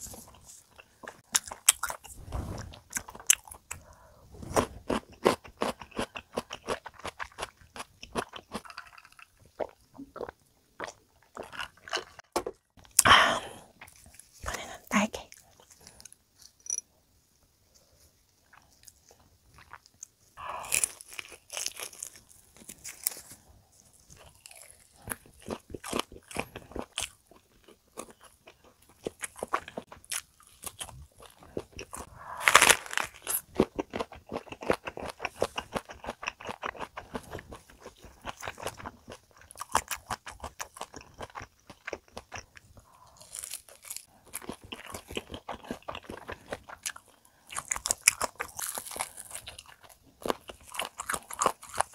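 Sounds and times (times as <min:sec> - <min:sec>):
crunching and chewing fried chicken: 0:04.5 - 0:12.6, 0:18.4 - 0:51.9.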